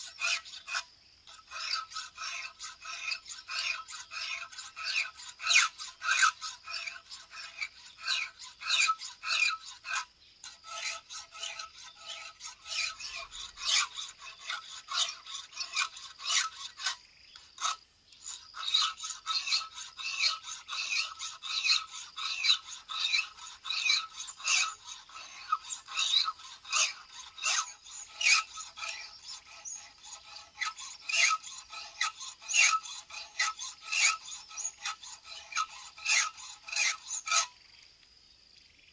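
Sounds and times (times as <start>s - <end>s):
file rasping on chainsaw chain: 0.0s - 37.6s.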